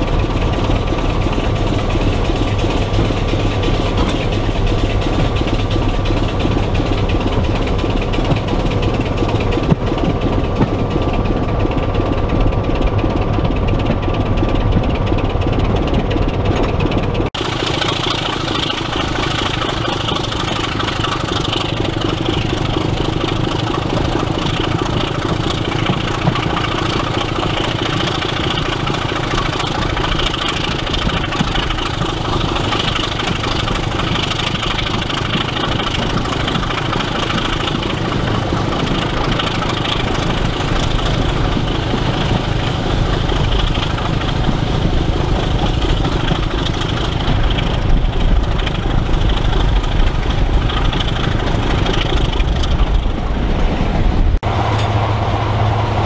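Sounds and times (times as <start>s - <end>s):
diesel locomotive engine rumbling: 0.0s - 56.0s.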